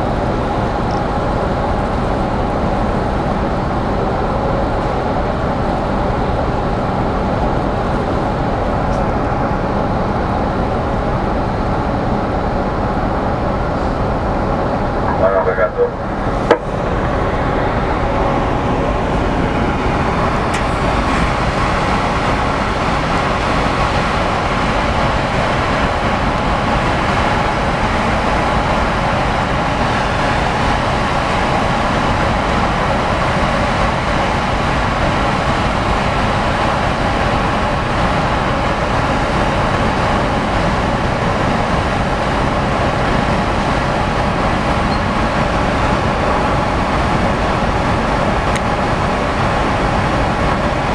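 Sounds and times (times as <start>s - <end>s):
ship engines and fans droning: 0.0s - 50.9s.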